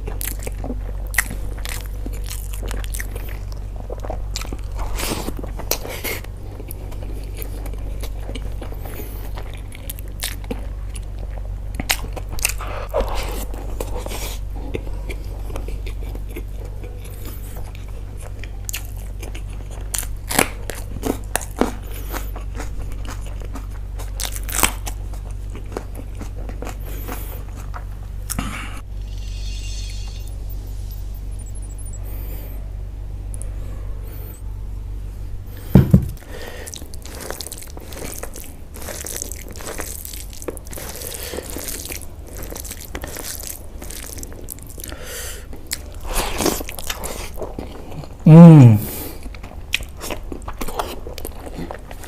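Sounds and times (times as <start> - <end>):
person chewing and crunching: 0.0 - 29.6, 35.6 - 52.0
steady low hum: 0.0 - 52.0.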